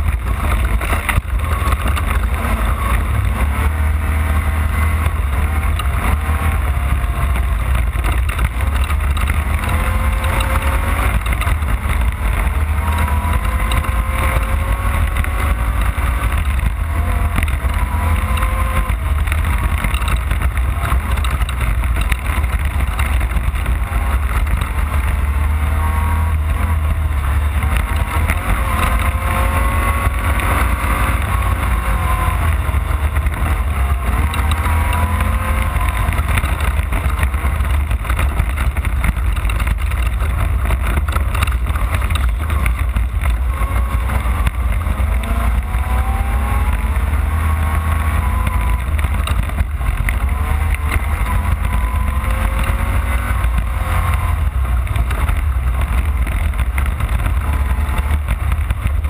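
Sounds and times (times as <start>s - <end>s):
knocks and rattles: 0.0s - 59.0s
race car engine revving: 0.0s - 59.0s.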